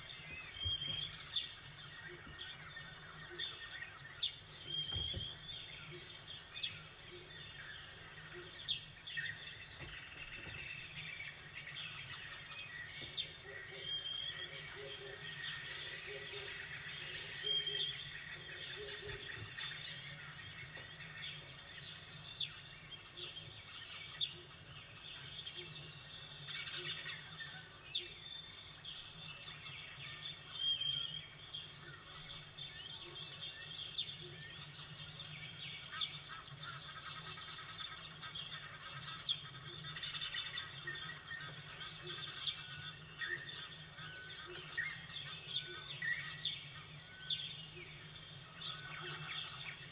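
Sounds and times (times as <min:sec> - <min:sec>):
low background noise: 0:00.0 - 0:49.9
songbirds chirping and trilling: 0:00.0 - 0:49.9.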